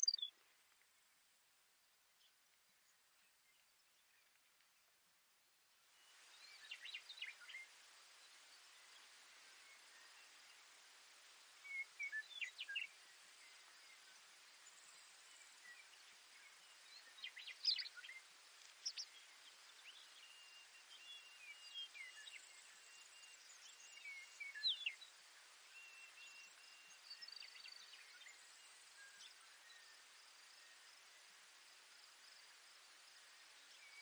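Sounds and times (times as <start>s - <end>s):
background hiss: 0.0s - 34.0s
sparrow song: 0.0s - 34.0s.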